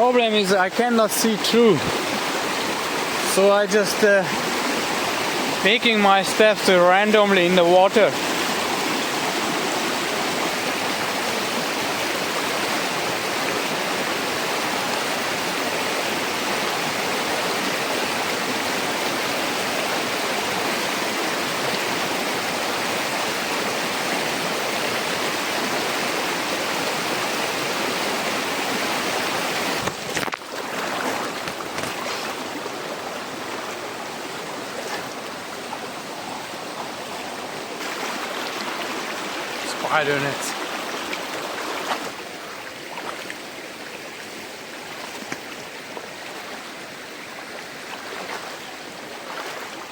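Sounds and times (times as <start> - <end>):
rushing river water: 0.0 - 49.9.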